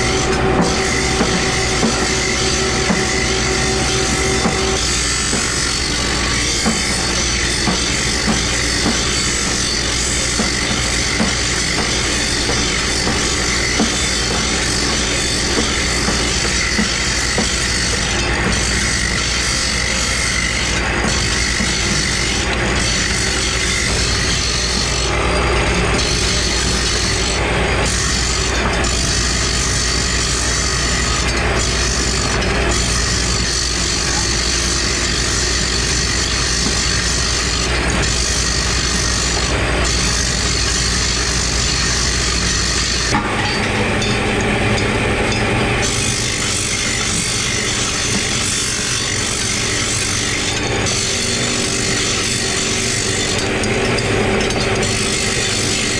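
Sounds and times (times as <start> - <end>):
power tool running: 0.0 - 55.9.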